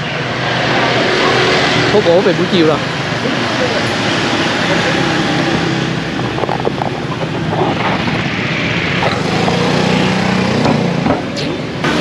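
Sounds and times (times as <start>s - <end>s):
scooter engines droning past: 0.0s - 12.0s
traffic noise: 0.0s - 12.0s.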